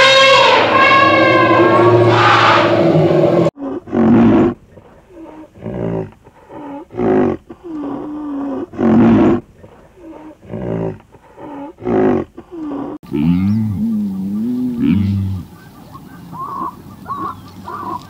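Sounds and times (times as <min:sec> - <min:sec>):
rhinoceros calling: 0:00.0 - 0:18.0.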